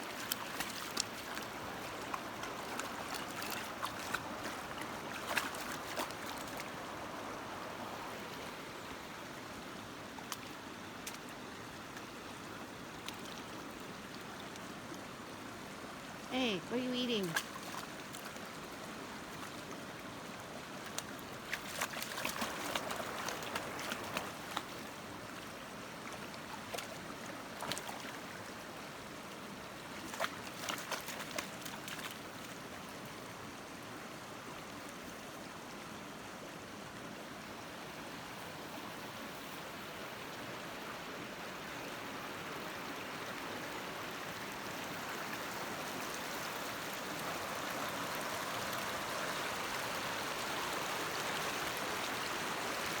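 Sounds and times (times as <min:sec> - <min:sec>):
water running over rocks: 0:00.0 - 0:53.0.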